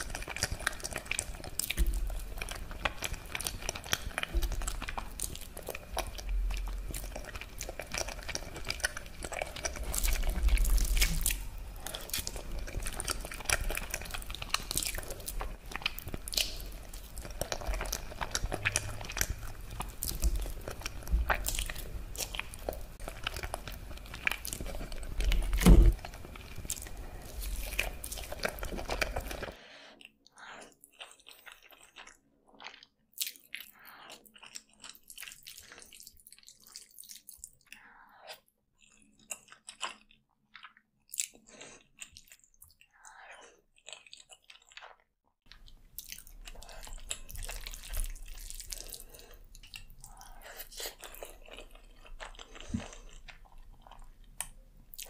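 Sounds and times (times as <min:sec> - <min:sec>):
wet chewing and slurping: 0:00.0 - 0:55.0.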